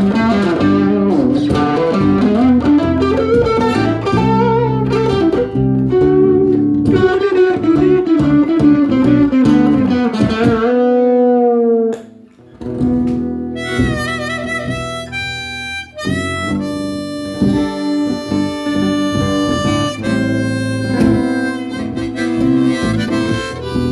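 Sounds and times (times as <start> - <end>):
harmonica long notes: 0.0 - 10.2, 13.4 - 23.9
blues guitar: 0.0 - 23.9.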